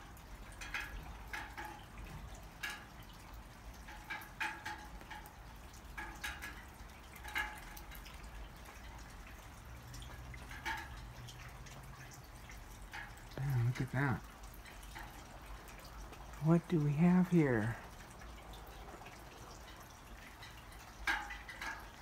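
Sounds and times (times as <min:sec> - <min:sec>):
water drops plinking: 0:00.0 - 0:22.0.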